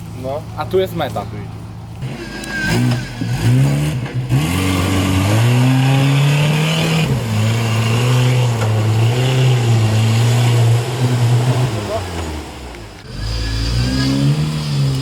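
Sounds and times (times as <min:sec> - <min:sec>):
vehicle engine revving: 0:02.0 - 0:15.0.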